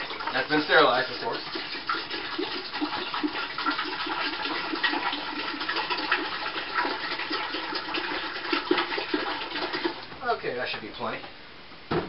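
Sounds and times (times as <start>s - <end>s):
water pouring into metal pot: 0.0s - 10.1s.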